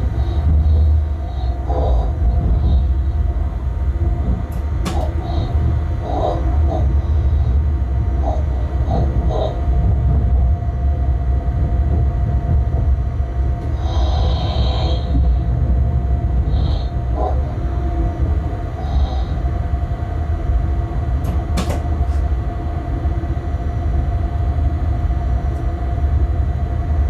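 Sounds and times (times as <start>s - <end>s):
locomotive cab rumble: 0.0s - 27.0s.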